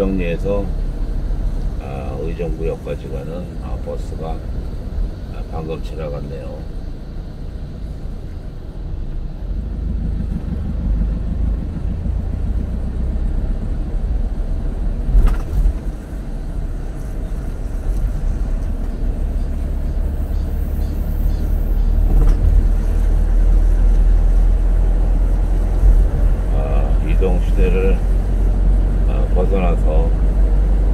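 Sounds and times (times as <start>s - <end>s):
car engine and tyre rumble: 0.0s - 30.9s.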